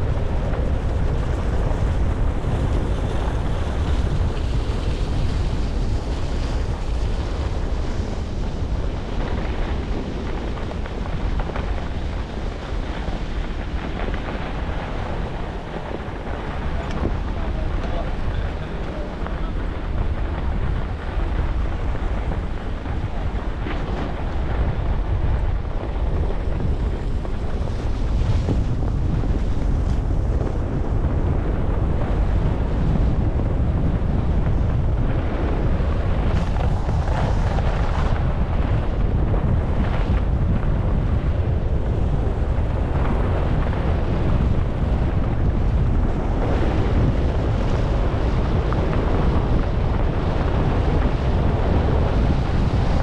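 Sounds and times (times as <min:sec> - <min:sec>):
skis scraping on snow: 0:00.0 - 0:53.0
wind buffeting microphone: 0:00.0 - 0:53.0.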